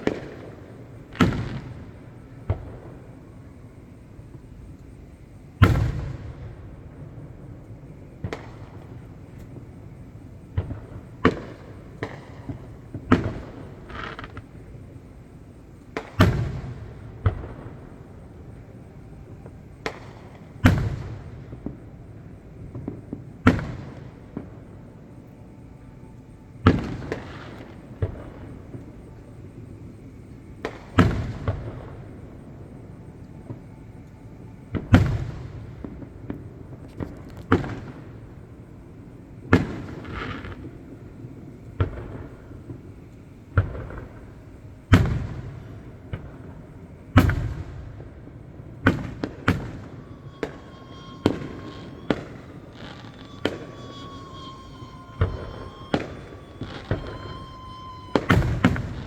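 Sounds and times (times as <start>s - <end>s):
crackling fireworks pops: 0.0s - 59.0s
distant fireworks booming: 0.0s - 59.0s.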